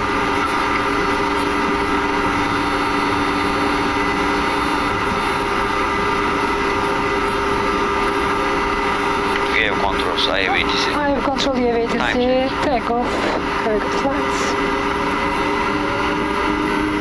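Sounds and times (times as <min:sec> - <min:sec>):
cockpit hum of idling jet engines: 0:00.0 - 0:17.0.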